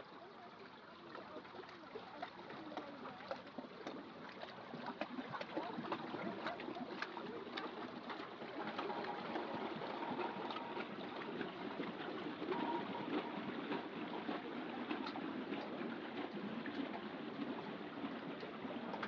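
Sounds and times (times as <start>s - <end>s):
water trickling and splashing: 0.0s - 19.0s
small irregular clicks: 1.7s - 19.0s.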